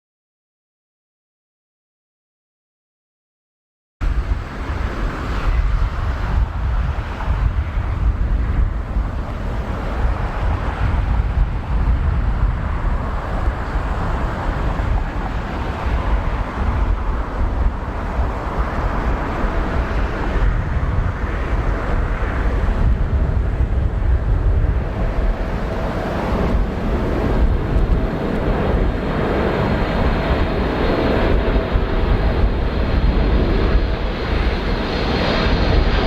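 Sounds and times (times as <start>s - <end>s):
distant jet airliner engines: 4.0s - 36.0s
wind buffeting microphone: 4.0s - 36.0s.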